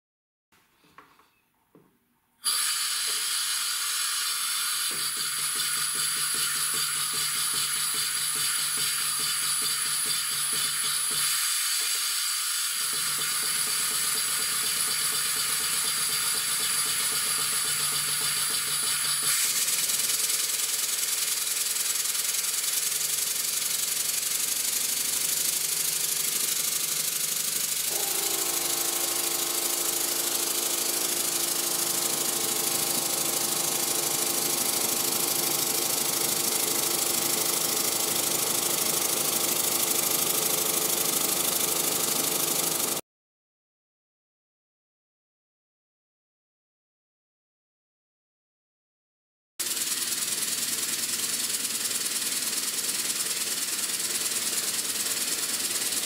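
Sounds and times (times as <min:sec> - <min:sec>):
model steam engine running: 0:02.5 - 0:43.0, 0:49.6 - 0:56.0.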